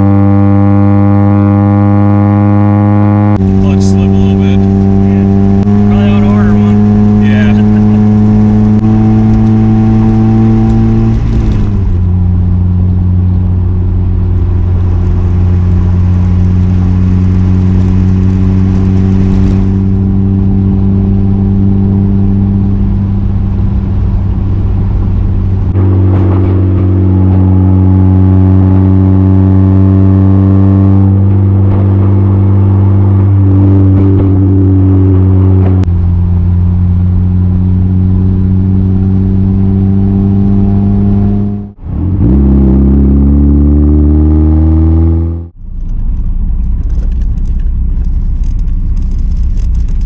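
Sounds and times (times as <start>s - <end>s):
car engine droning: 0.0s - 50.0s.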